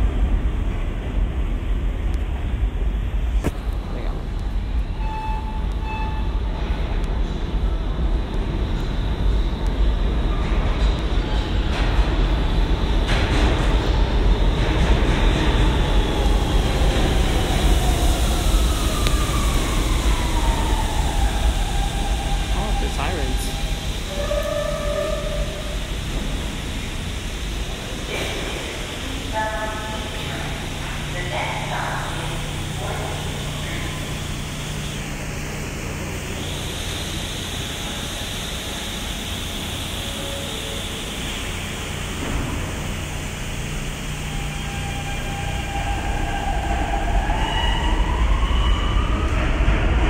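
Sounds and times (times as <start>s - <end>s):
subway train rumbling: 0.0s - 50.0s.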